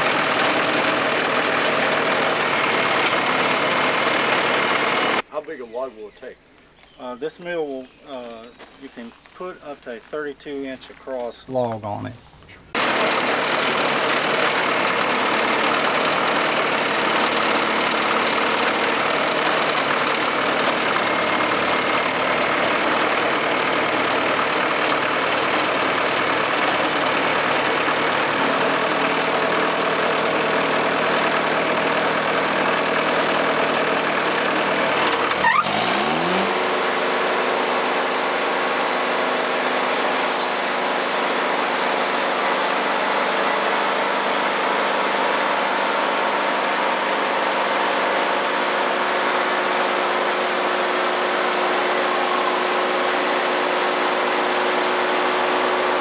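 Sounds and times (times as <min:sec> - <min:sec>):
sawmill engine running: 0:00.0 - 0:05.3, 0:12.6 - 0:56.0.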